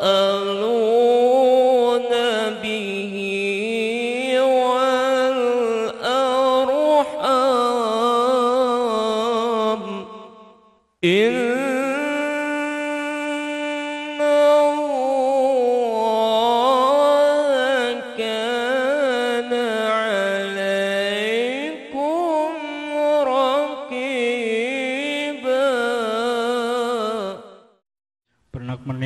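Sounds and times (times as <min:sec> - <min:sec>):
man chanting into a microphone: 0:00.0 - 0:10.4, 0:11.0 - 0:27.5, 0:28.6 - 0:29.0.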